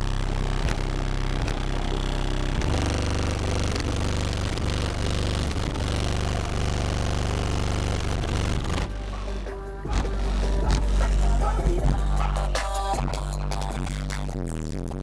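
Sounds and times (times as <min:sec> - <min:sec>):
deep bass from car subwoofers: 0:00.0 - 0:15.0.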